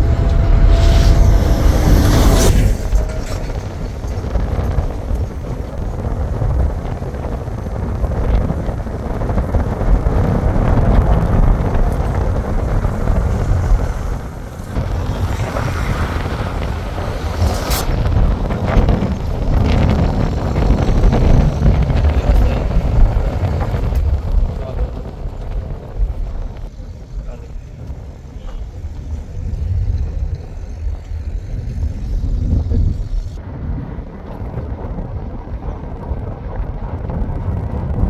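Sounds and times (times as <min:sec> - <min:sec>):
vehicle rumbling on road: 0:00.0 - 0:38.0
wind buffeting microphone: 0:00.0 - 0:38.0.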